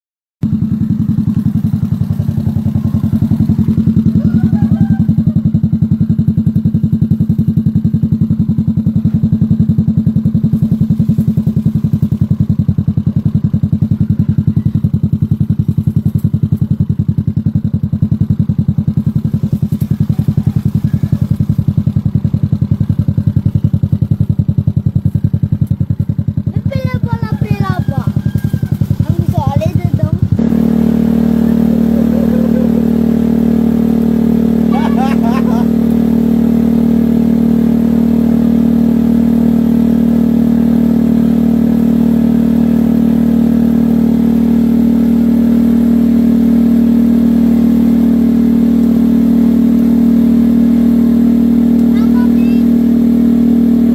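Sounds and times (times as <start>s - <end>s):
motorcycle engine idling: 0.4s - 53.9s.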